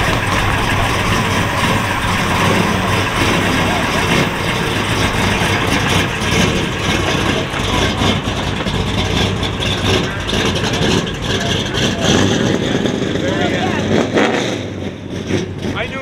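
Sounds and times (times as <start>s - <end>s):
crowd chatter: 0.0s - 14.1s
car engine idling: 0.0s - 16.0s.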